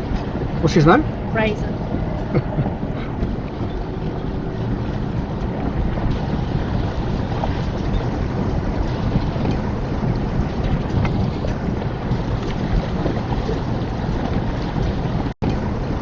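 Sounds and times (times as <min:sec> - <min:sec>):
four-wheel drive engine rumble: 0:00.0 - 0:16.0
wind noise on microphone: 0:00.0 - 0:16.0.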